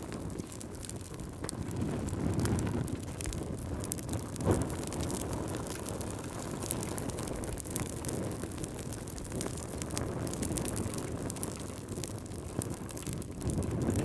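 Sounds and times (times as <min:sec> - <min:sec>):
loud pop from fire: 0:00.0 - 0:14.0
wood fire crackling: 0:00.0 - 0:14.0.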